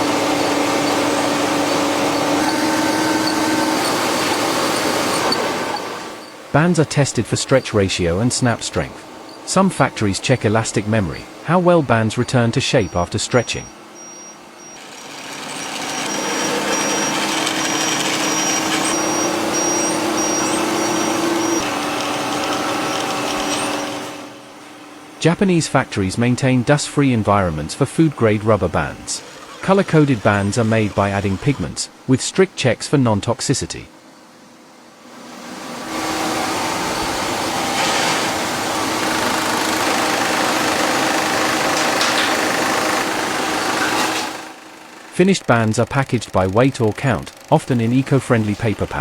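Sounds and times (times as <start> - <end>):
factory machinery humming: 0.0 - 34.0, 35.1 - 49.0.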